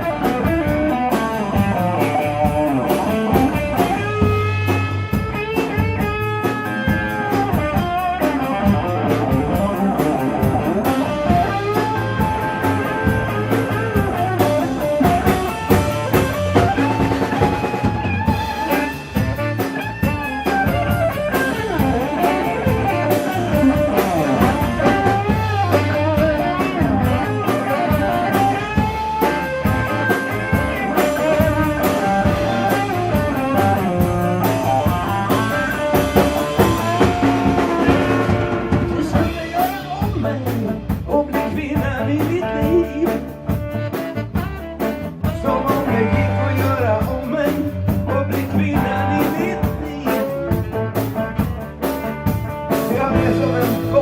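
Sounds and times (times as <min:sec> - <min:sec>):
bass guitar: 0:00.0 - 0:54.0
drum kit beat: 0:00.0 - 0:54.0
electric guitar melody: 0:00.0 - 0:54.0.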